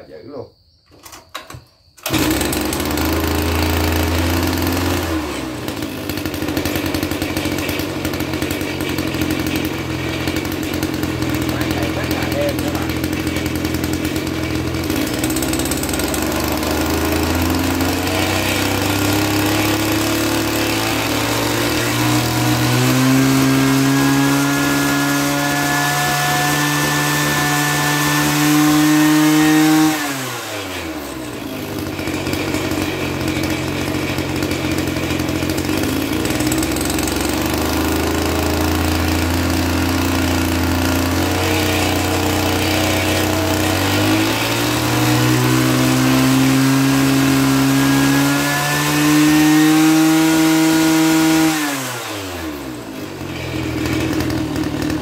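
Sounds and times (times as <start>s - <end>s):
small petrol engine revving: 1.1s - 55.0s.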